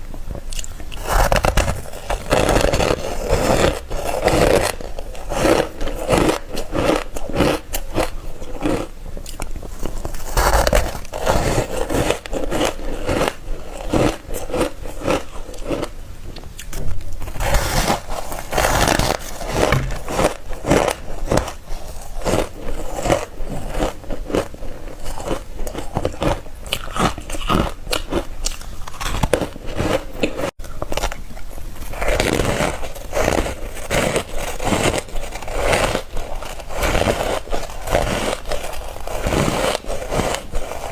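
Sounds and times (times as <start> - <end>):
ice crunching between teeth: 0.5 - 40.9.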